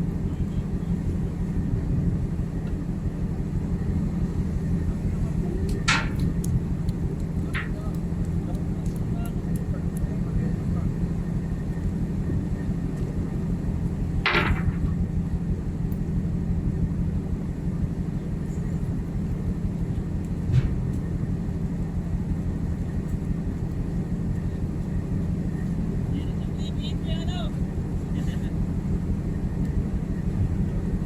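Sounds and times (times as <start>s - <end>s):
ship machinery hum: 0.0s - 31.0s.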